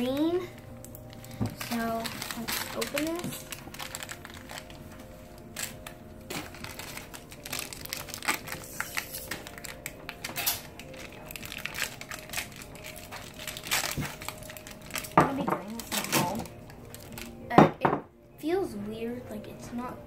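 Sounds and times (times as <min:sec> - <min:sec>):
packaging crinkling and rustling: 0:00.0 - 0:17.5.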